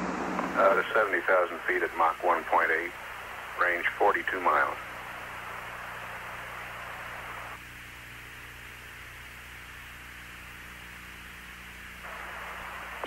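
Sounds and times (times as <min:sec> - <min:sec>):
radio static hiss: 0:00.0 - 0:13.0
steady low hum: 0:00.0 - 0:13.0.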